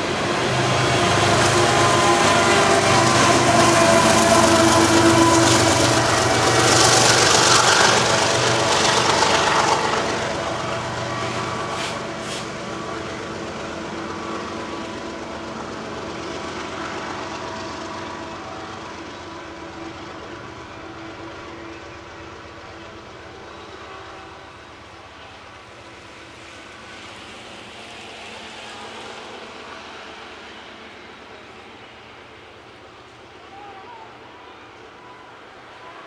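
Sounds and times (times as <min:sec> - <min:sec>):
freight train rumbling on rails: 0:00.0 - 0:36.0.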